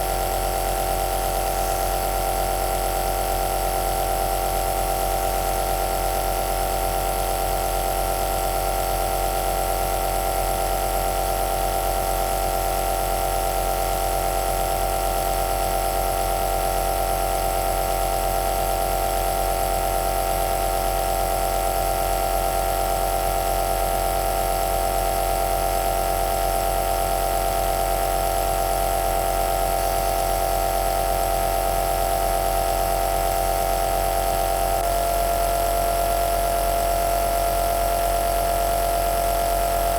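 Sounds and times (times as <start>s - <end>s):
nebuliser motor and pump hum: 0.0s - 39.9s.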